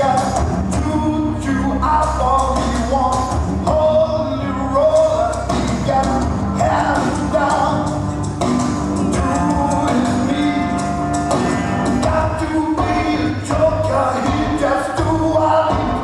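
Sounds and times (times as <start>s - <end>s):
steady drum beat: 0.0s - 1.4s, 2.1s - 4.1s, 5.0s - 16.0s
rock and roll music with singing: 0.0s - 16.0s.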